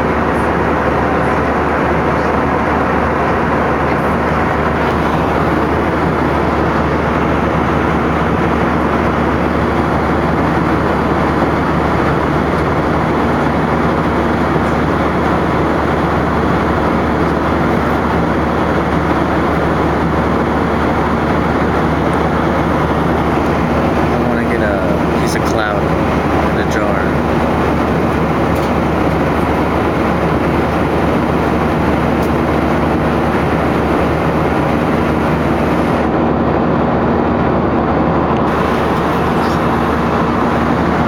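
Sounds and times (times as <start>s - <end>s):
airplane cabin engine and airflow rush: 0.0s - 41.0s.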